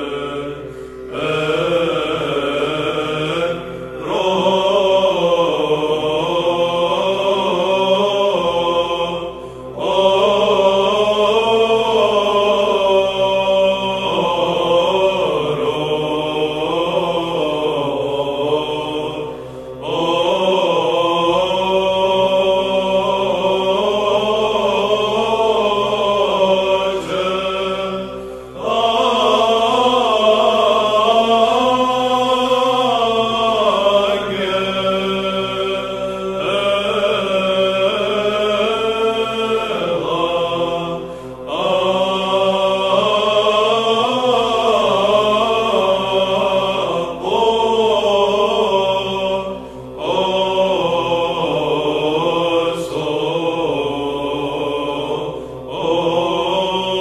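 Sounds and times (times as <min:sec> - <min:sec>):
choir chanting over a drone: 0:00.0 - 0:57.0.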